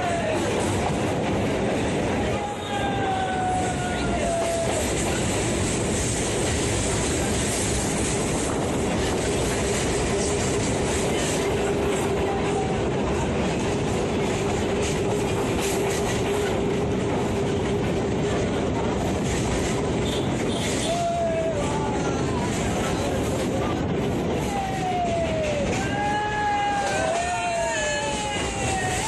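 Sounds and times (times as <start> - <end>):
train wheel and track noise: 0.0 - 29.0
train whine: 0.0 - 29.0.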